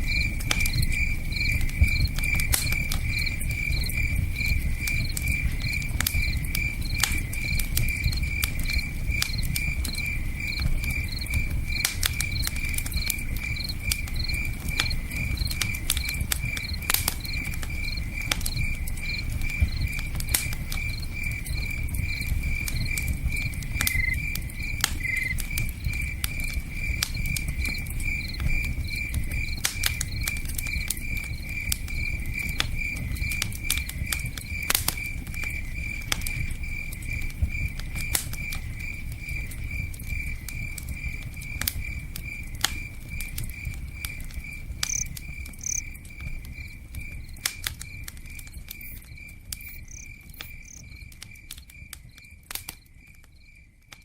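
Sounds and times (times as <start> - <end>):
crickets chirping: 0.0 - 53.9
campfire crackling: 0.0 - 54.0.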